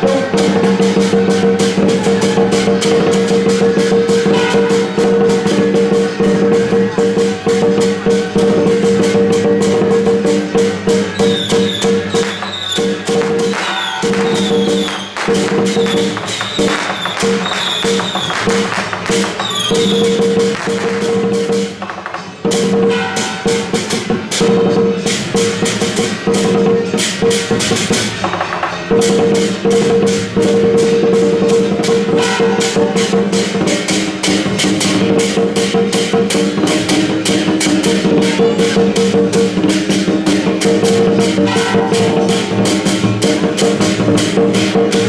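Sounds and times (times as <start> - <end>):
fast drum and cymbal beats: 0.0 - 45.0.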